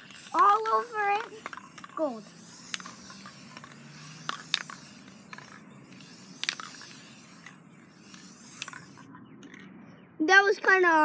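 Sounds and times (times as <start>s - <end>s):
spray can hissing: 0.0s - 9.1s
sharp clicks: 0.0s - 9.7s.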